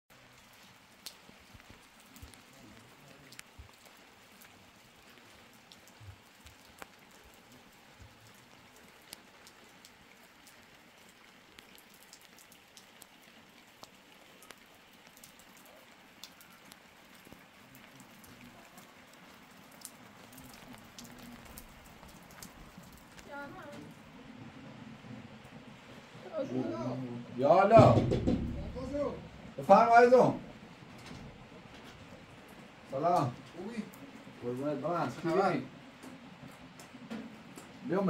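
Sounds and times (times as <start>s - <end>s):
faint rain hiss: 0.1s - 38.0s
raindrops ticking: 0.1s - 38.0s.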